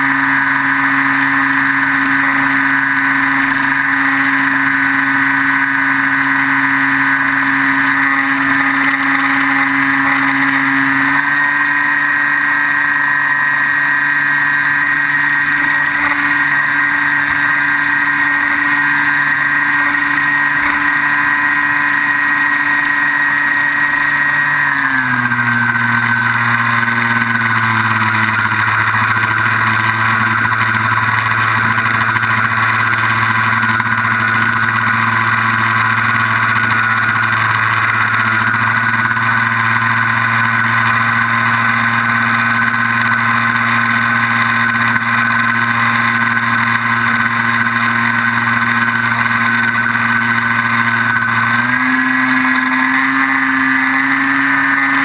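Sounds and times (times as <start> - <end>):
electric plane motor whining: 0.0 - 55.0.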